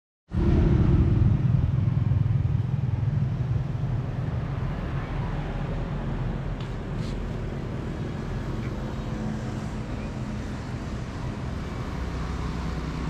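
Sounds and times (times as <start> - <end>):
passing road traffic: 0.3 - 13.0
vehicle engine rumbling: 0.3 - 13.0.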